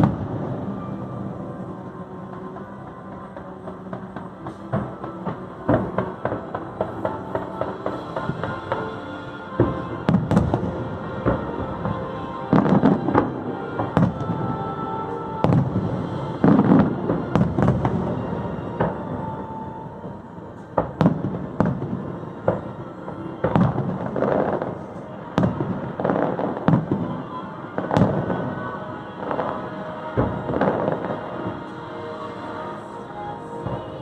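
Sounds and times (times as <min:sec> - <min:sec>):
fireworks bangs and crackles: 0:00.0 - 0:01.7, 0:02.3 - 0:34.0.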